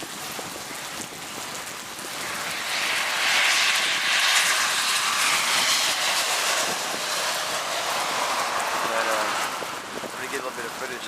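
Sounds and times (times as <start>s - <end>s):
vehicle tyres hissing on wet road: 0.0s - 11.0s.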